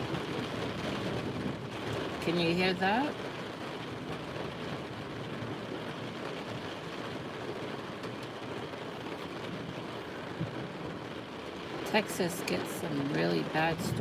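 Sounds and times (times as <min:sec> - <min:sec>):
heavy rain on vehicle roof: 0:00.0 - 0:14.0.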